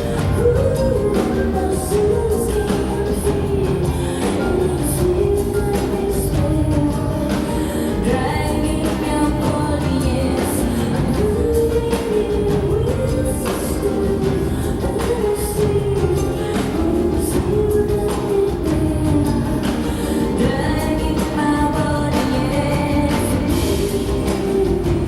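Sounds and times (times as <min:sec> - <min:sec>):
rock band playing: 0:00.0 - 0:25.0
woman singing: 0:00.0 - 0:25.0.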